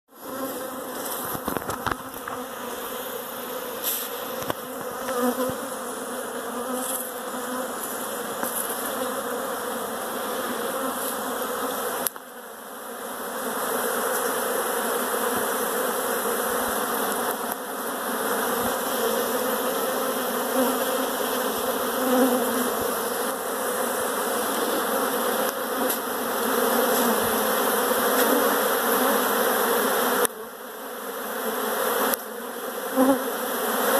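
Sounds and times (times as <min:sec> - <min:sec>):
bees buzzing: 0:00.1 - 0:33.9.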